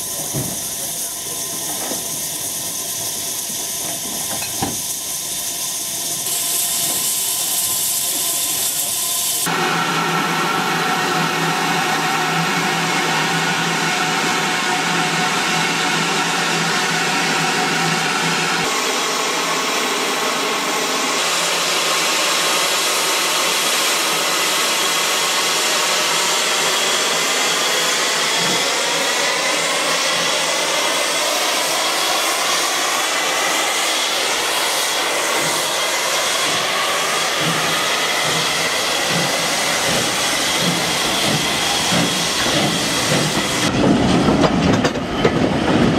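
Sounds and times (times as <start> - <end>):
steam hissing with ringing tones: 0.0 - 44.3.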